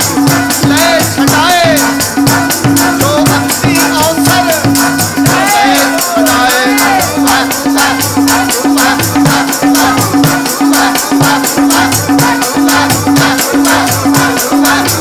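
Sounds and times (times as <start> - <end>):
group singing: 0.0 - 15.0
harmonium: 0.0 - 15.0
tabla: 0.0 - 15.0.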